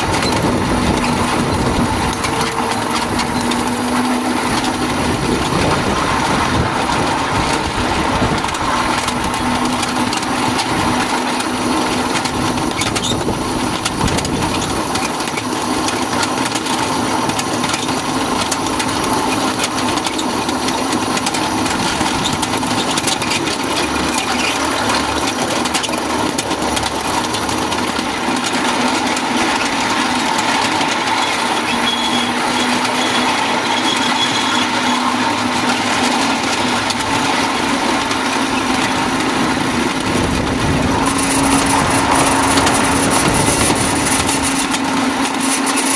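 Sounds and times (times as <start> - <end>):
small locomotive engine running: 0.0 - 45.9
wheels clicking and rattling on rails: 0.0 - 45.9.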